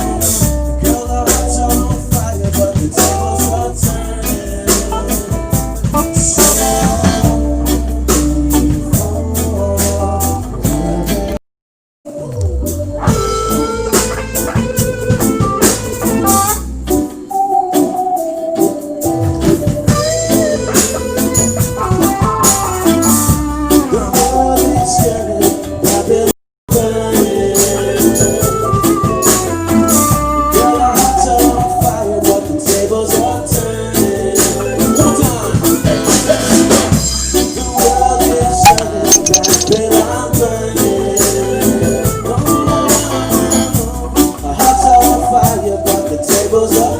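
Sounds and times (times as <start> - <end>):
person singing lead vocals: 0.0 - 11.1, 12.1 - 16.3, 20.0 - 46.9
acoustic band playing: 0.0 - 11.4, 12.1 - 46.9.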